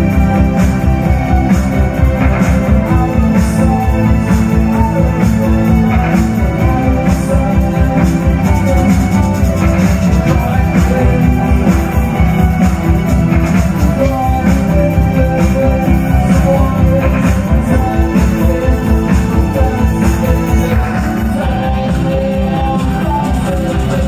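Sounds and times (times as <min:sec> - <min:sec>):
live rock band playing loud: 0:00.0 - 0:24.0.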